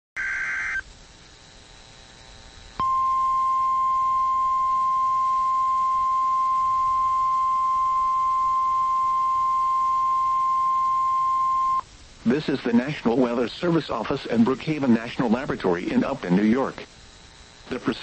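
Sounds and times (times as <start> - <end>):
faint radio hiss: 0.2 - 18.0.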